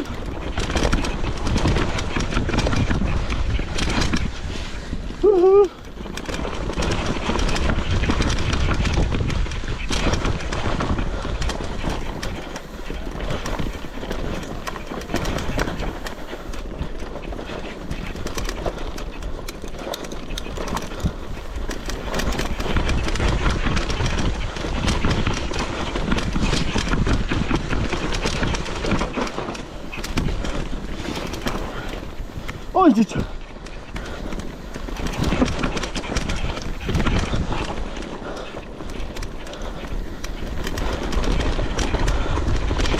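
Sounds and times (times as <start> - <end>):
mountain bike rattling: 0.0 - 42.9
wind rumble on microphone: 0.0 - 42.9.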